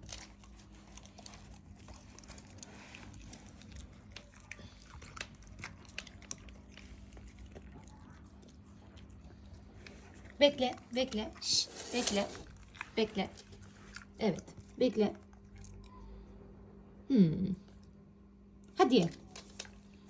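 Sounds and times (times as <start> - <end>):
dog chewing and crunching: 0.0 - 16.1, 18.9 - 20.0.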